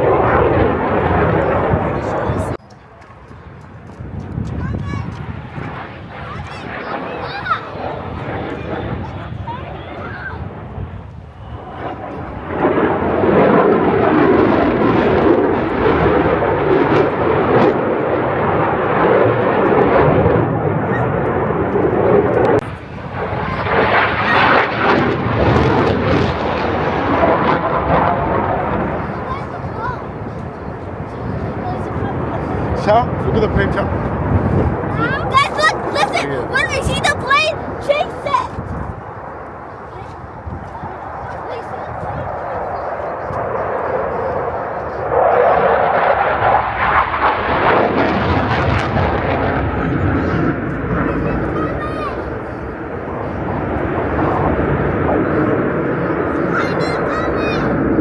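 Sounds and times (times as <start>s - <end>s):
jet aircraft flying past: 0.0s - 58.0s.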